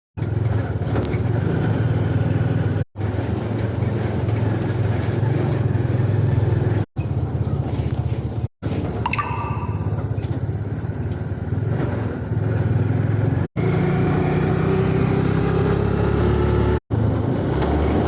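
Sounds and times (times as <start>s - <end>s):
vehicle engine rumbling: 0.2s - 18.0s.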